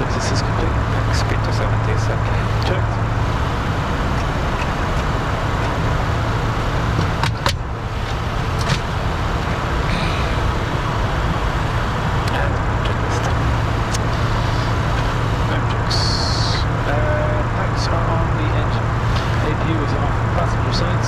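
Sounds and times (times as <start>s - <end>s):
airflow and jet engine noise: 0.0s - 21.0s
low hum: 0.0s - 21.0s.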